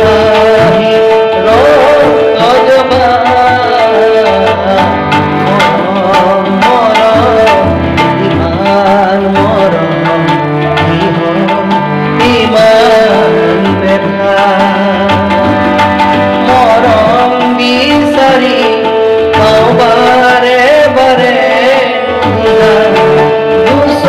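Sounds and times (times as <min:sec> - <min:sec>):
harmonium notes: 0:00.0 - 0:24.0
man singing: 0:00.0 - 0:24.0
tabla rhythm: 0:00.0 - 0:24.0.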